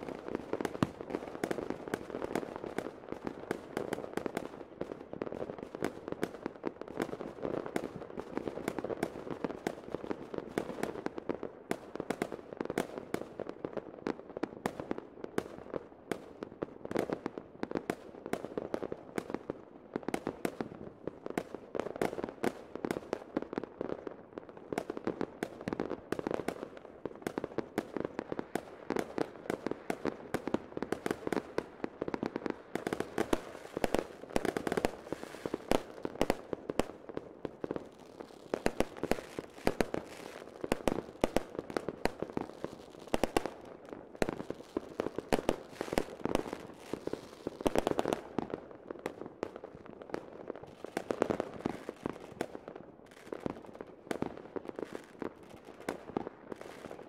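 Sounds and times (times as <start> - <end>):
fireworks cracking and popping: 0.0 - 15.6, 16.2 - 57.0.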